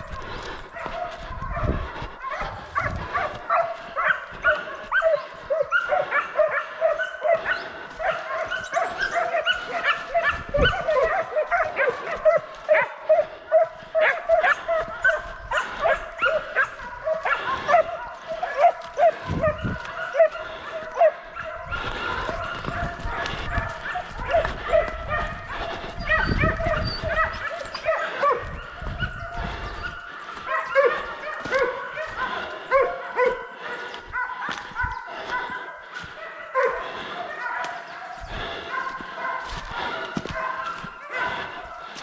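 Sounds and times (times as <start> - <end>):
dogs barking: 0.0 - 42.0.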